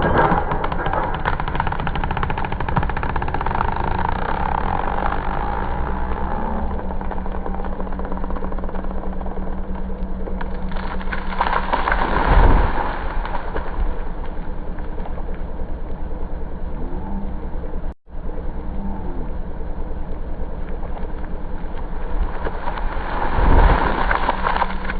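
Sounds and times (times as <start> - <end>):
low rumble: 0.0 - 24.9.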